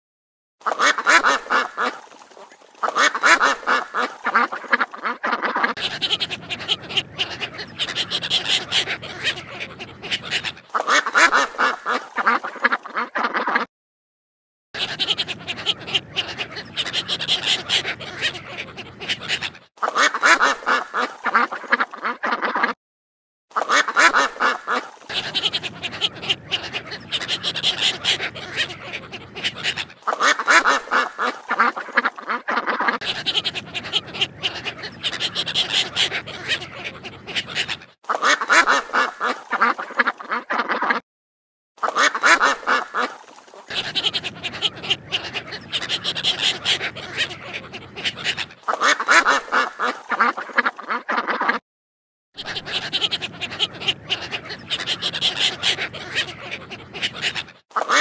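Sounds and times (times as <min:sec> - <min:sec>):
ducks quacking: 0:00.6 - 0:13.7, 0:14.8 - 0:22.8, 0:23.5 - 0:41.0, 0:41.8 - 0:51.6, 0:52.4 - 0:58.0.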